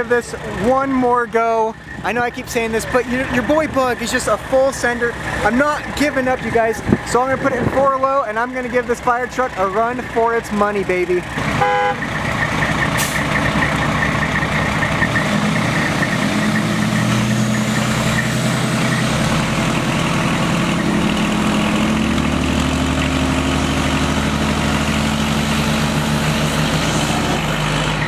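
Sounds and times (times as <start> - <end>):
diesel engine under heavy load: 0.0 - 28.0.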